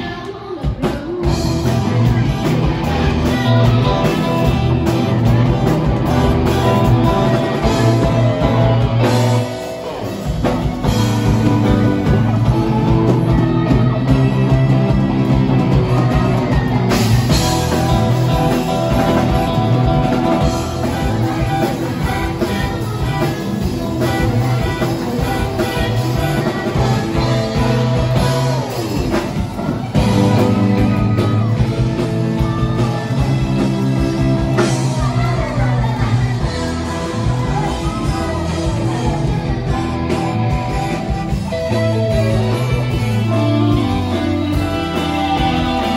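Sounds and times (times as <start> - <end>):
live rock band playing: 0.0 - 45.9
person singing: 0.0 - 45.9.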